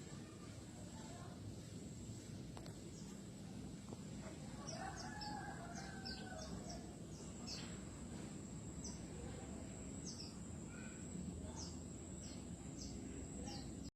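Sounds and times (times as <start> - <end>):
songbirds chirping: 0.0 - 13.9.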